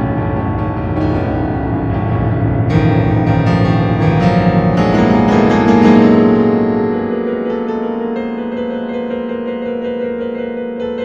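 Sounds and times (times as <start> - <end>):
instrumental keyboard music: 0.0 - 11.0.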